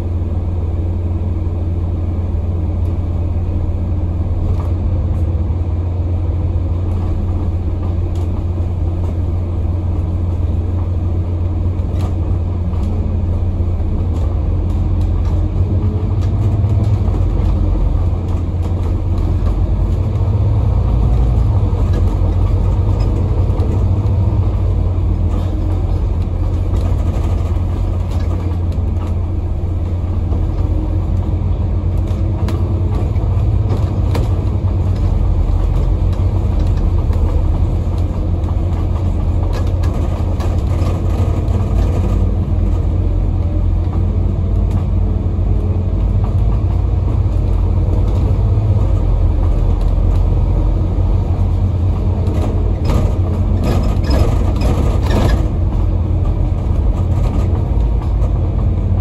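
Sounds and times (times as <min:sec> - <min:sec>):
bus diesel engine droning: 0:00.0 - 0:59.0
road noise: 0:00.0 - 0:59.0.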